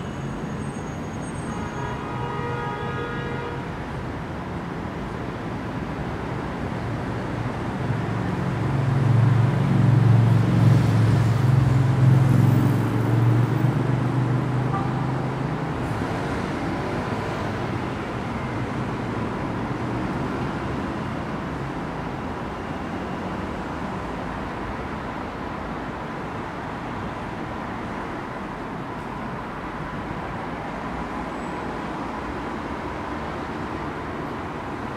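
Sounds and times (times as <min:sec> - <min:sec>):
road traffic hum: 0:00.0 - 0:34.9.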